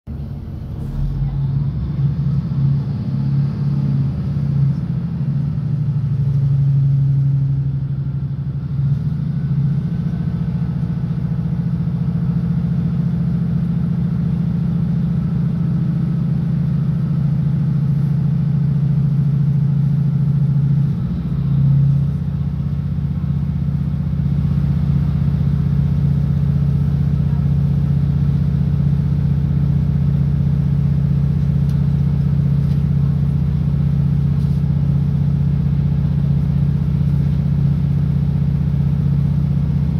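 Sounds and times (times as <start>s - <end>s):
train diesel engine droning: 0.1s - 39.9s.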